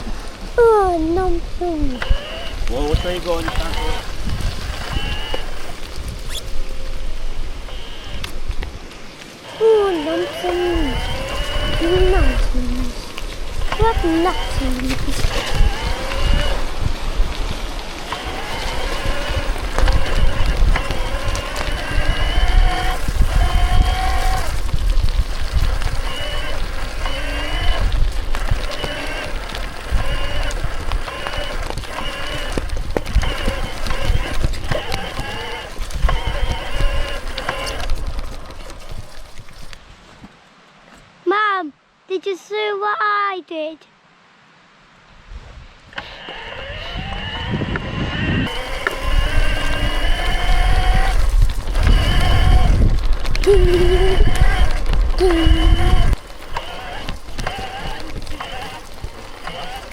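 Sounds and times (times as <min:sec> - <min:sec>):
wind rumble on microphone: 0:00.0 - 0:40.3, 0:45.1 - 0:59.9
tyres on gravel: 0:00.0 - 0:41.2, 0:46.0 - 0:59.9.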